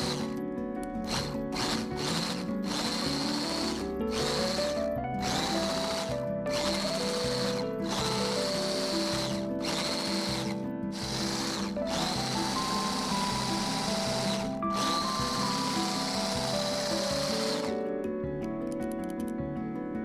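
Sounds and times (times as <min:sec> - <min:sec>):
electric whisk whirring: 0:00.0 - 0:00.4, 0:01.0 - 0:17.8
background music with simple melody: 0:00.0 - 0:20.0.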